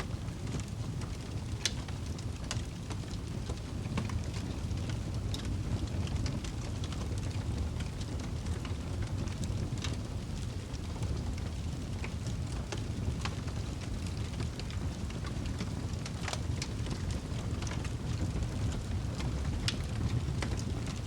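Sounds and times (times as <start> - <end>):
fire crackling and popping: 0.0 - 21.0
low rush of flames: 0.0 - 21.0.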